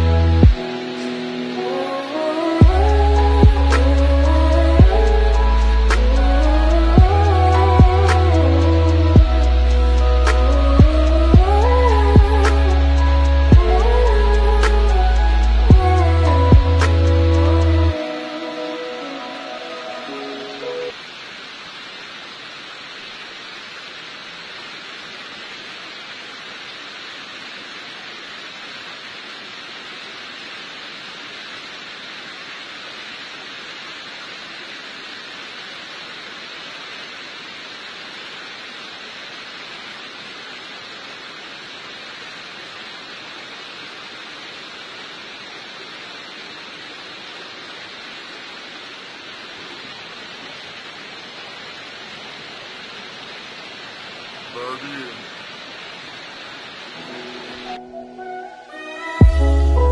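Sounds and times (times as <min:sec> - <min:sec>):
waterfall rushing onto boulders: 0:00.0 - 0:58.0.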